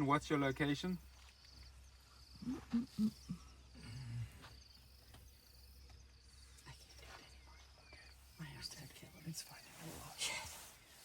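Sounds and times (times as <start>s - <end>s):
faint insects chirping: 0.0s - 11.0s.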